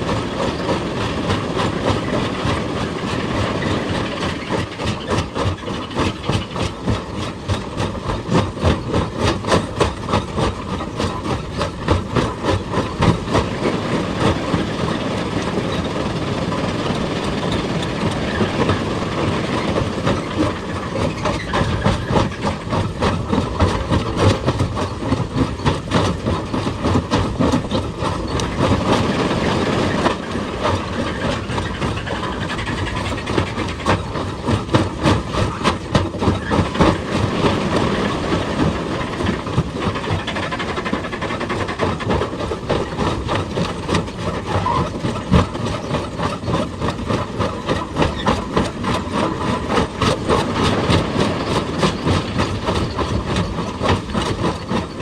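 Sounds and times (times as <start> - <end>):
excavator machine noise: 0.0 - 55.0.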